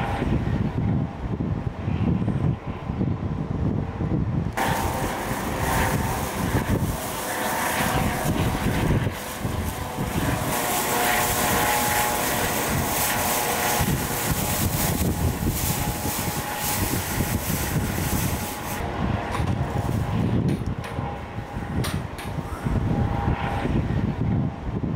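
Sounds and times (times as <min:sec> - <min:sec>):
helicopter rotor and turbine noise: 0:00.0 - 0:24.9.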